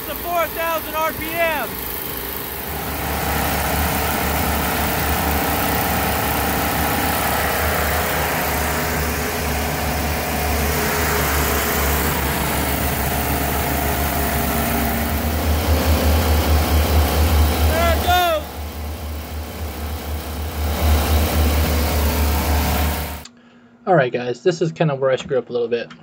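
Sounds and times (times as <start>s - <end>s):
boat engine running hard: 0.0s - 23.2s.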